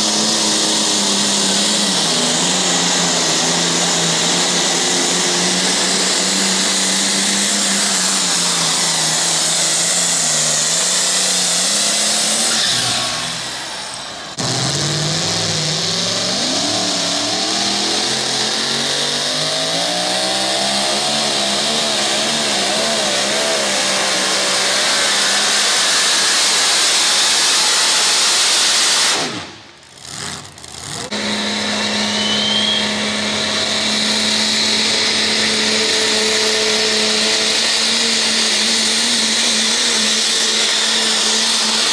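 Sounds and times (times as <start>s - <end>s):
engine running at steady pitch: 0.0s - 41.9s
pickup truck engines pulling: 0.0s - 41.9s
tractor engine under load: 0.0s - 41.9s.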